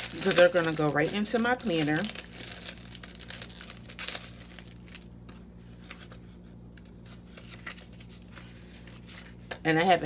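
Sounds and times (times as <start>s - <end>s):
plastic sleeve crinkling: 0.0s - 9.4s.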